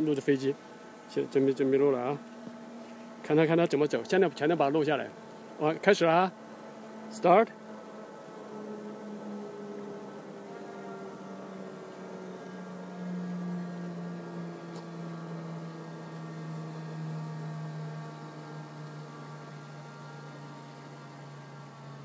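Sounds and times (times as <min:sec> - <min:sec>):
drone propellers humming: 0:00.0 - 0:22.0.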